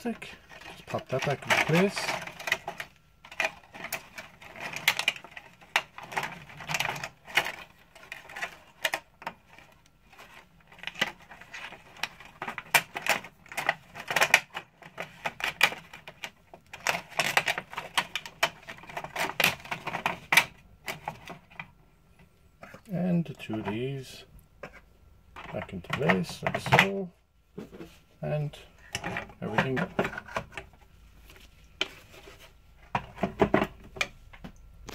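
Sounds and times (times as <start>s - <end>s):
plastic parts clicking and rattling: 0.0s - 34.9s.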